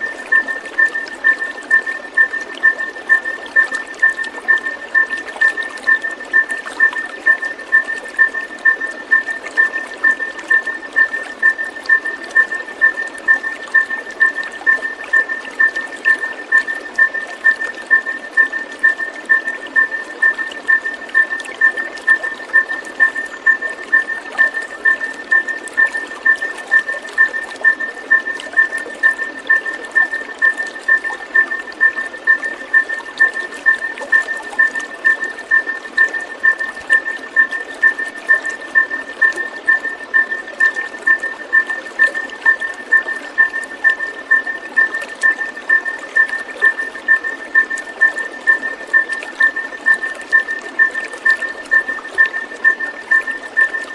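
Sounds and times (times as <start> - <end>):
running water rush: 0.0 - 53.9.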